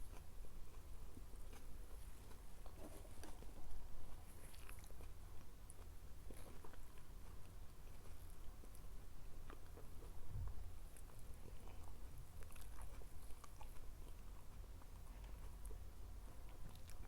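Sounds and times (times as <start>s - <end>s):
close-miked chewing food: 0.0s - 17.0s.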